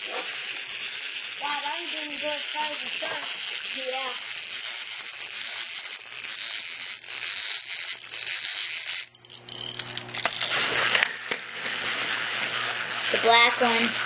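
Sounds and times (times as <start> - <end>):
wind-up toys whirring and clicking: 0.0 - 14.0.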